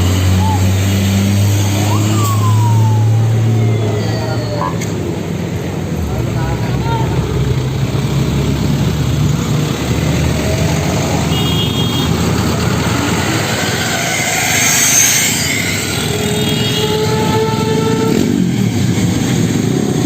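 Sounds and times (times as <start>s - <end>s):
passing vehicles: 0.0s - 20.0s.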